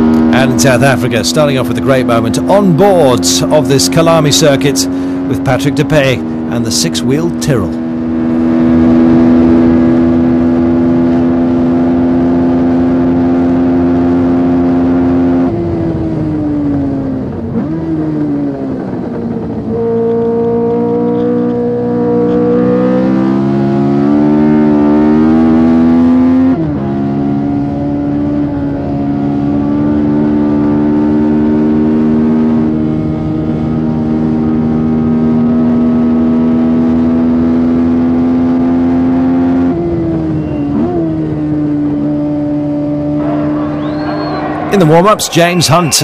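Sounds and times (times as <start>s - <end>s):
racing car engine revving: 0.0s - 46.0s.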